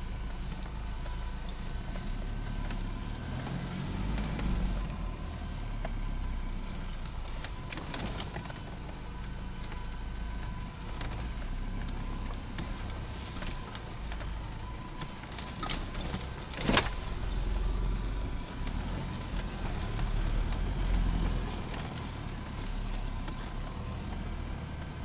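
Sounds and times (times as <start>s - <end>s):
engine running inside cab: 0.0s - 25.0s.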